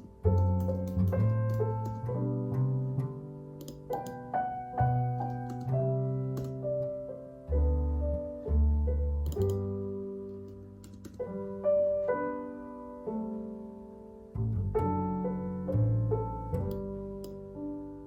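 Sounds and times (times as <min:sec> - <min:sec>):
calm piano chords: 0:00.0 - 0:18.0.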